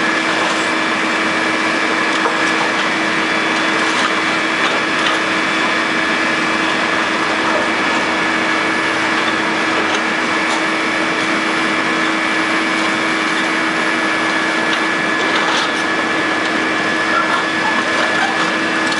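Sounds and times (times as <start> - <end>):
excavator diesel engine running: 0.0 - 18.9
hydraulic whine: 0.0 - 18.9.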